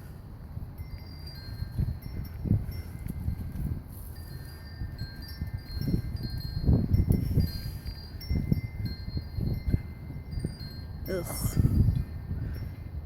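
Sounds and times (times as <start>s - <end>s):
wind chime ringing: 0.5s - 13.0s.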